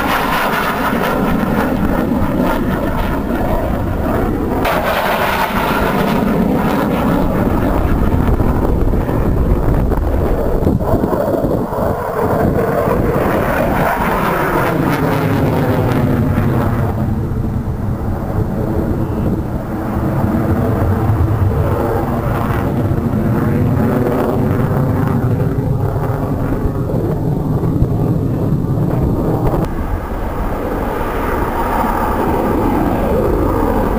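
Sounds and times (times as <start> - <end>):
jet fighter flying past: 0.0 - 33.9.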